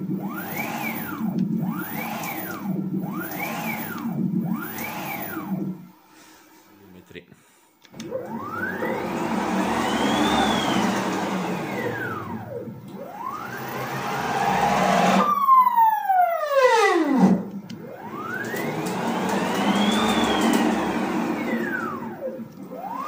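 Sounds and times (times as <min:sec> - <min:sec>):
stepper motor whine: 0:00.0 - 0:05.9, 0:08.0 - 0:23.0.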